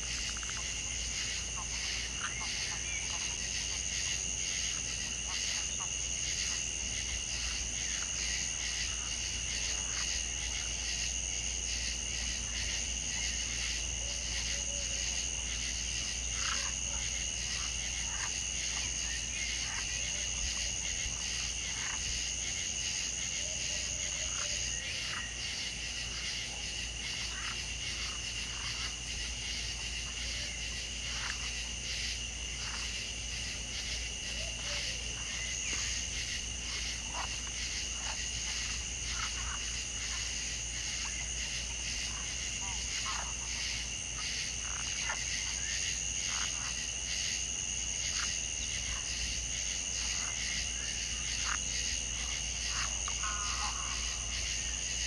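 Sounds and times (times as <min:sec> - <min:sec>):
frog calls: 0:00.0 - 0:11.1, 0:12.2 - 0:47.2, 0:48.0 - 0:55.0.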